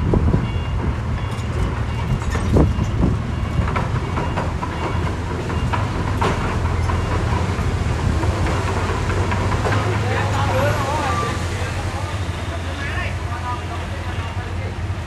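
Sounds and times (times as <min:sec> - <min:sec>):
crawler tracks clanking and squeaking: 0:00.0 - 0:15.0
diesel engine running under load: 0:00.0 - 0:15.0.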